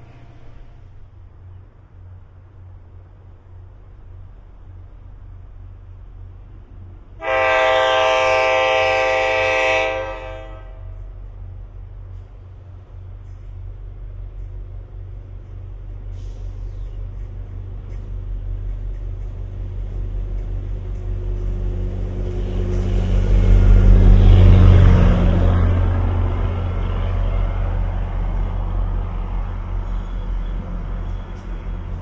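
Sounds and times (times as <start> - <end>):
diesel train engine humming: 0.0 - 32.0
wheels rushing on rails: 0.0 - 32.0.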